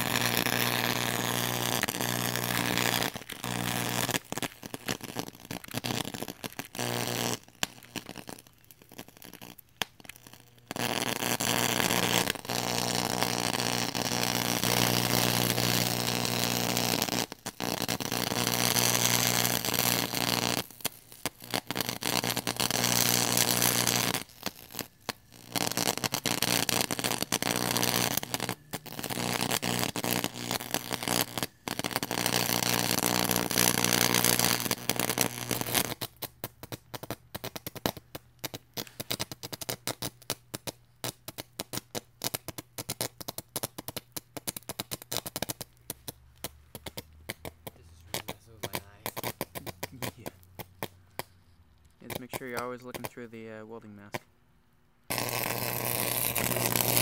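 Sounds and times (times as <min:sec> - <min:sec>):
electric arc crackling buzz: 0:00.0 - 0:51.3, 0:51.9 - 0:54.3, 0:55.0 - 0:57.0.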